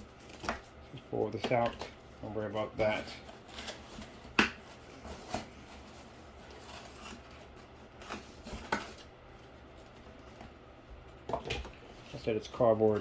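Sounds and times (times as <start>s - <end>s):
cardboard rustling: 0.0s - 13.0s.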